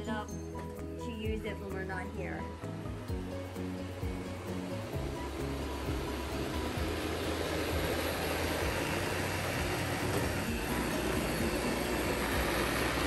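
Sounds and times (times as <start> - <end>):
robot vacuum running on carpet: 1.2 - 13.0.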